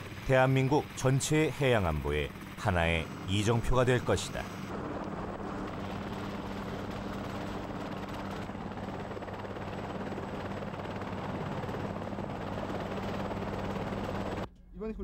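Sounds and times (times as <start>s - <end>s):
helicopter running: 0.0s - 15.0s.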